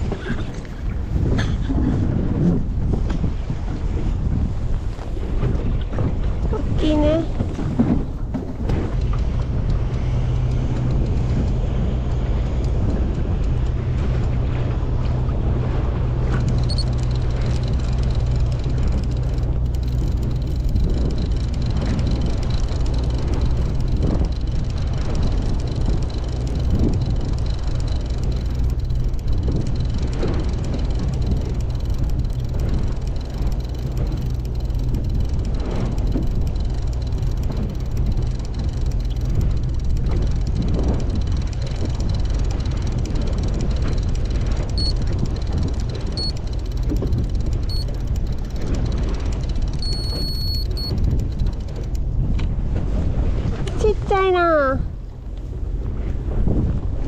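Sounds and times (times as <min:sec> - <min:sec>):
boat engine droning: 0:00.0 - 0:57.0
water wash: 0:00.0 - 0:57.0.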